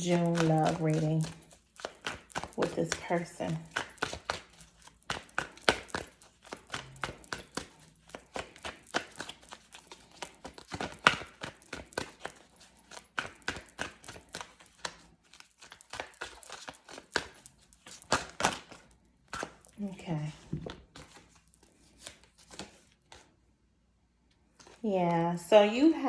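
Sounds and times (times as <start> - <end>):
cards being shuffled: 0.0 - 23.4, 24.6 - 24.9.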